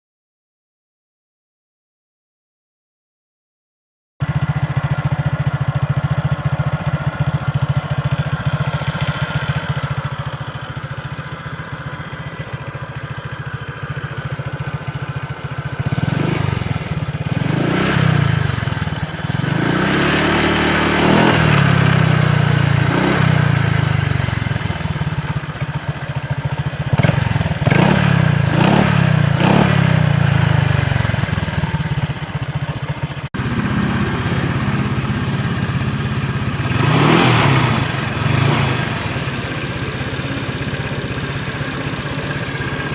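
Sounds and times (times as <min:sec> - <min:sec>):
motor scooter idling and revving: 0:04.2 - 0:42.9.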